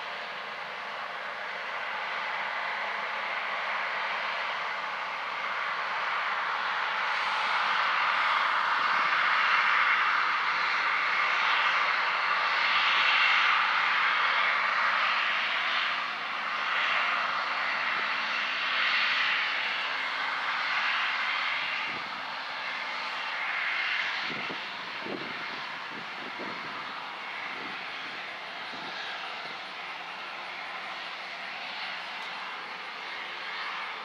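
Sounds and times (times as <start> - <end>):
combine harvester roaring: 0.0 - 34.0.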